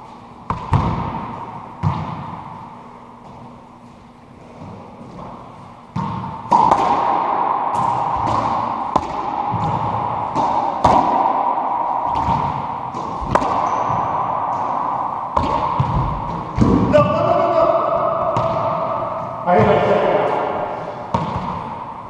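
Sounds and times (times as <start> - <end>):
racquetball hits ringing: 0.5 - 2.8, 4.6 - 22.0.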